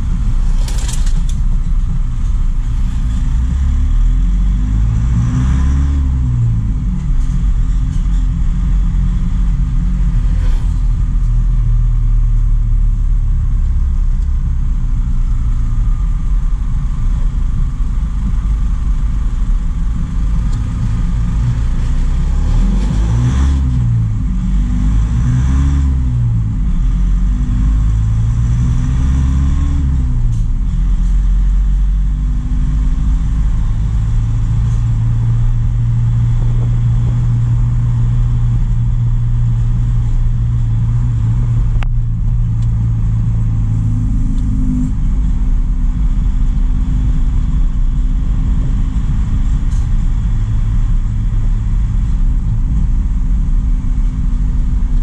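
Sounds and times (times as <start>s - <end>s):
truck engine running: 0.0s - 5.1s, 6.1s - 25.2s, 29.9s - 55.0s.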